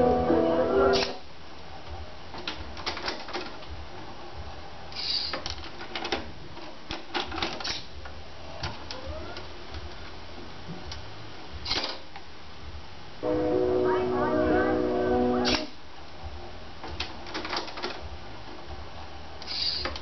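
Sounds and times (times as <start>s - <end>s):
faint steady hum: 0.0s - 7.0s, 7.9s - 17.2s.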